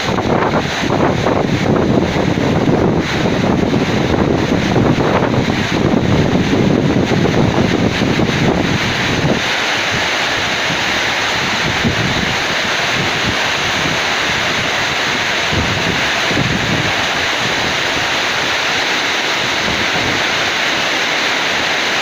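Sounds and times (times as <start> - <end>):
heavy rain pouring: 0.0 - 22.0
wind gusts buffeting microphone: 0.0 - 22.0.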